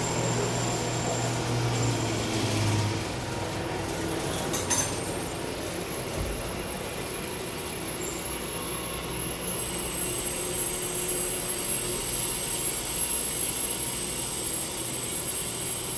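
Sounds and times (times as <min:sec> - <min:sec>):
machinery running: 0:00.0 - 0:15.9.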